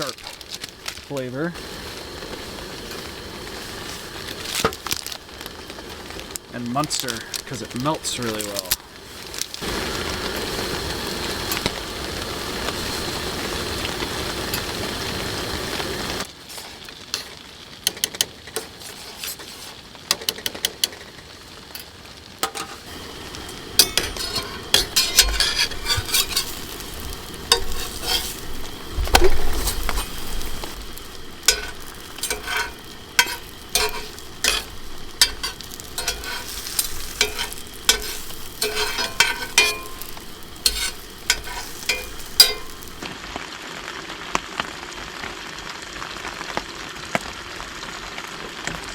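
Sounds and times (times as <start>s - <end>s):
sandwich sizzling in pan: 0.0s - 48.8s
frying crackles: 0.0s - 48.9s.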